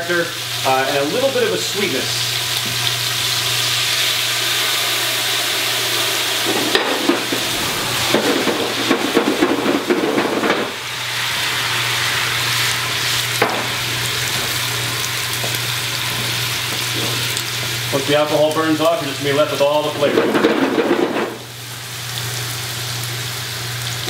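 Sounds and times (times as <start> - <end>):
chicken sizzling in hot fat: 0.0 - 24.0
flambe crackling rush: 1.1 - 24.0.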